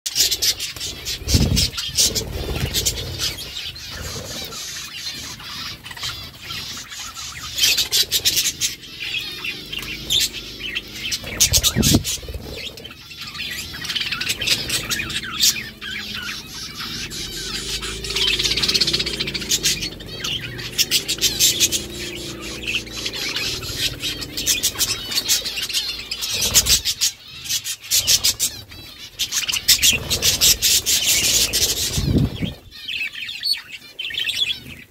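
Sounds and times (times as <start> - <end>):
budgerigars chirping: 0.1 - 34.9.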